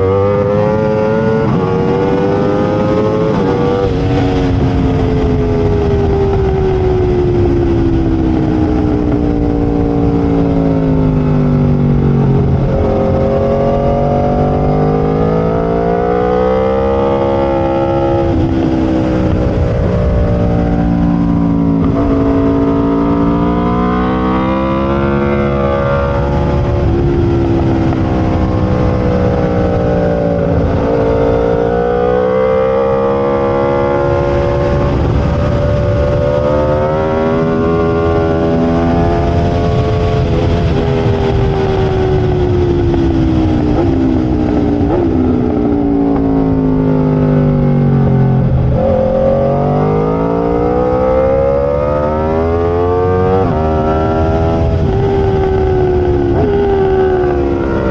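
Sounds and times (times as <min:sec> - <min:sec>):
motorcycle engine revving: 0:00.0 - 0:57.9
rush of wind: 0:00.0 - 0:57.9.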